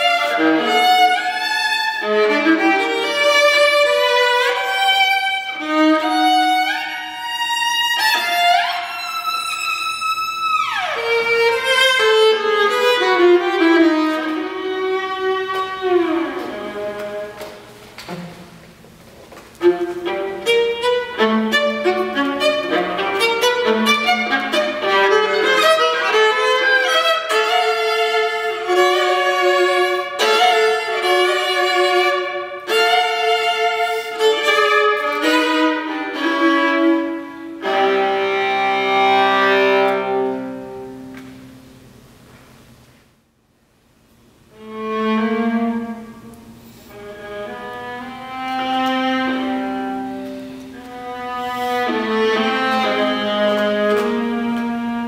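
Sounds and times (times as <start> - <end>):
solo viola playing: 0.0 - 17.7, 19.6 - 41.1, 44.5 - 55.0.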